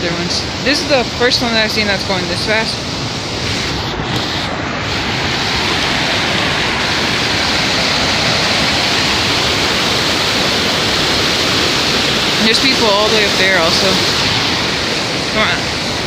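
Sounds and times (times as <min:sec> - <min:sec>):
river rushing fast: 0:00.0 - 0:16.0.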